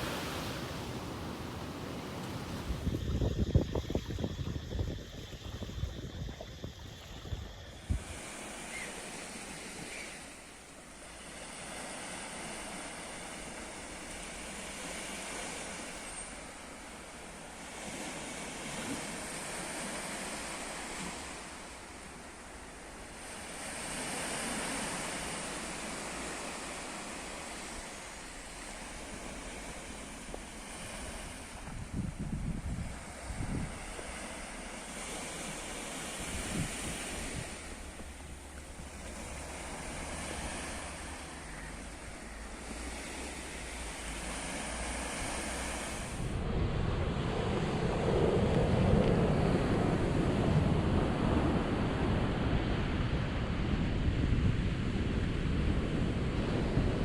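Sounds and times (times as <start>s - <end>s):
ocean waves washing in: 0.0s - 57.0s
wind: 0.0s - 57.0s.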